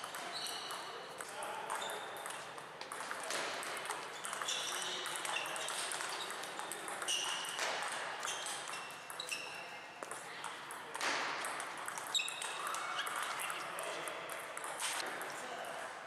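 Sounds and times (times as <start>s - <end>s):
table tennis ball pinging: 0.0s - 15.3s.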